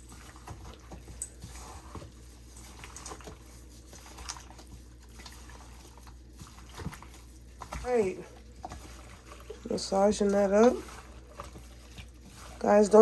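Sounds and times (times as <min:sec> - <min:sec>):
hands squelching chicken in seasoning: 0:00.0 - 0:13.0
low steady hum: 0:00.0 - 0:13.0.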